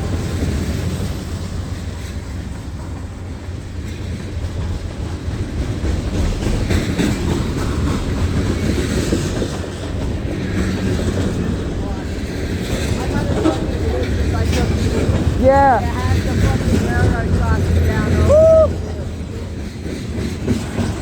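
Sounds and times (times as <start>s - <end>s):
freight train rolling past: 0.0s - 21.0s
wheels clicking over rail joints: 0.0s - 21.0s.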